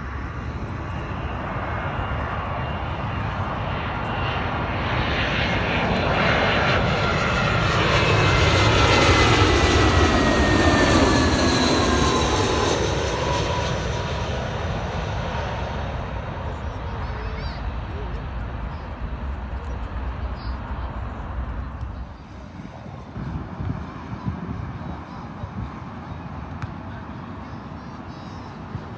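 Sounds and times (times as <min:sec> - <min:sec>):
jet airliner passing overhead: 0:00.0 - 0:28.9.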